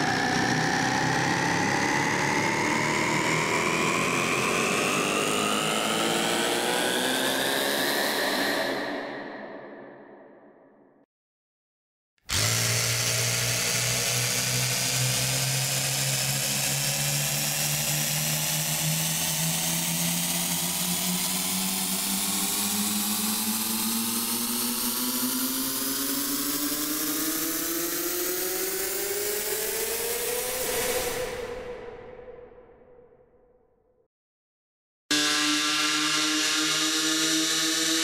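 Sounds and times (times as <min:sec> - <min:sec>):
rising riser sound effect: 0:00.0 - 0:10.5, 0:14.4 - 0:33.0, 0:35.1 - 0:38.0.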